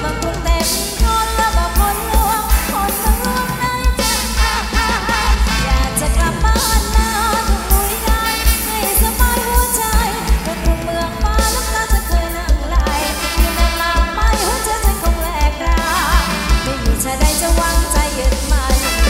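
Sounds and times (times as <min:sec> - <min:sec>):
band with heavy bass beat: 0:00.0 - 0:19.0
person singing: 0:00.0 - 0:19.0.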